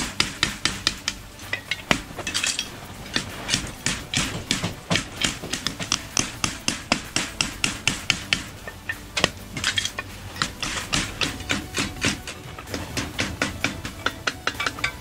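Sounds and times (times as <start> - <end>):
hammer tapping: 0.0 - 15.0.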